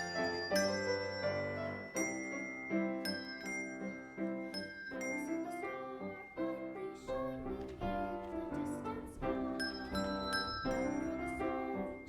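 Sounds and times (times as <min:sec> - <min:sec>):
keyboard music with piano notes: 0:00.0 - 0:12.0.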